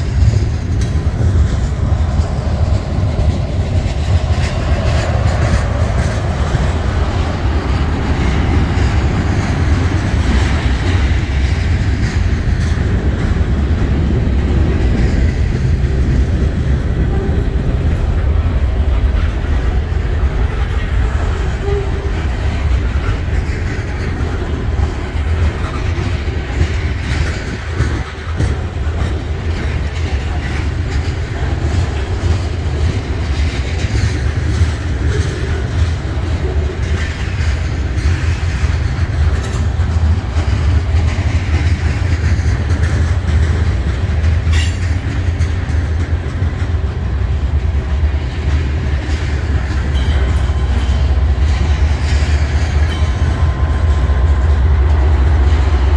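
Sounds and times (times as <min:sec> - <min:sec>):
freight train rumbling past: 0:00.0 - 0:55.9
wheels clicking over rail joints: 0:00.0 - 0:55.9.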